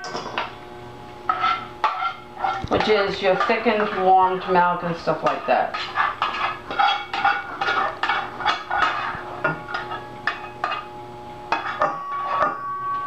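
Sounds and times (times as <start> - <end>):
spatula scraping saucepan: 1.3 - 10.9, 11.5 - 13.0.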